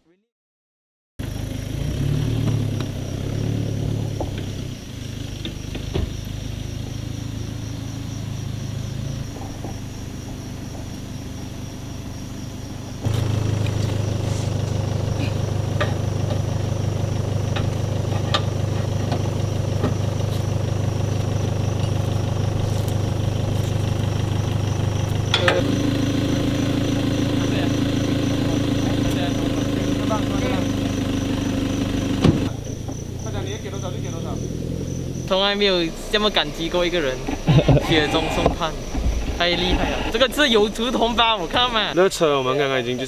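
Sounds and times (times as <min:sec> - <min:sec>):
truck engine idling: 0:01.2 - 0:43.0.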